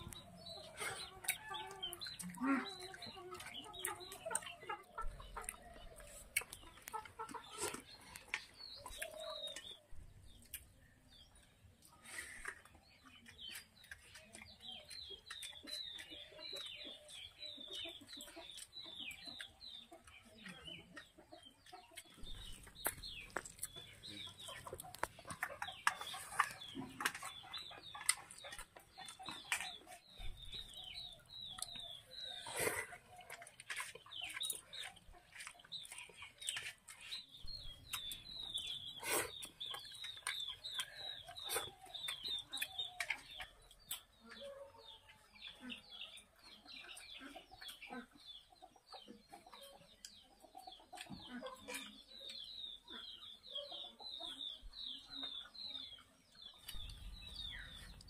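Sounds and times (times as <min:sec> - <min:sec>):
chickens clucking: 0:00.0 - 0:58.0
chicks peeping: 0:00.0 - 0:58.0.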